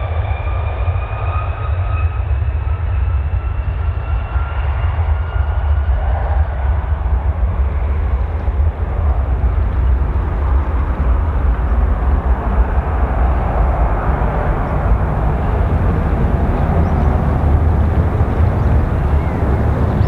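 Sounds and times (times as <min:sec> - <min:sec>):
jet engines at take-off thrust: 0:00.0 - 0:20.0.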